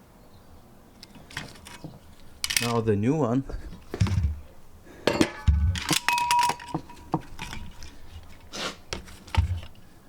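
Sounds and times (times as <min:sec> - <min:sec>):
metal parts clinking and knocking: 0:01.0 - 0:04.4, 0:05.1 - 0:09.8.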